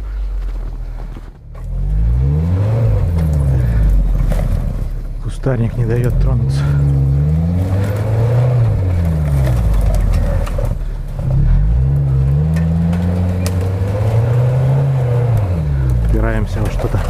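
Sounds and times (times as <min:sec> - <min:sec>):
engine revving under load: 0:00.8 - 0:17.0.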